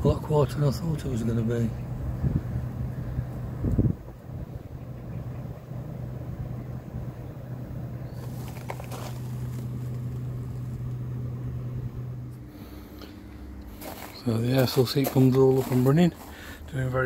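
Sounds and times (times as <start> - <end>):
fan air noise: 0.0 - 17.0
heat pump humming: 0.0 - 17.0.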